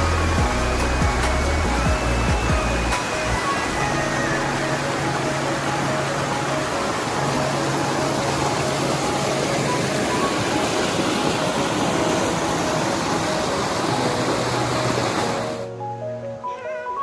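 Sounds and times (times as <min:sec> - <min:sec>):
stream rushing over boulders: 0:00.0 - 0:15.7
soft background music: 0:00.0 - 0:17.0.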